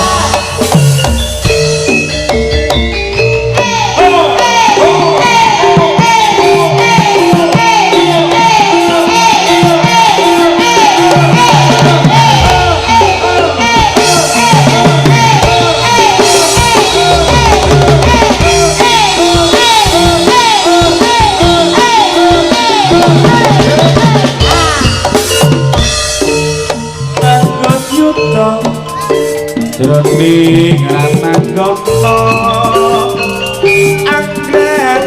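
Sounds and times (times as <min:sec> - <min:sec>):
drums and percussion: 0:00.0 - 0:35.0
repeating melodic figure: 0:00.0 - 0:35.0.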